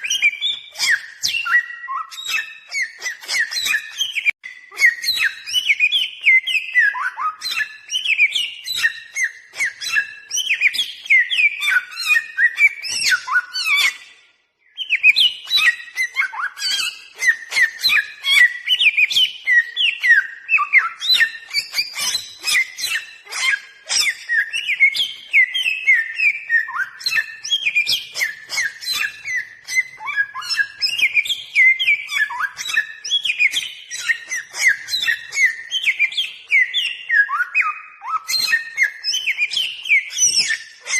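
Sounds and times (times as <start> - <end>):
bird whistling and chirping: 0.0 - 40.9.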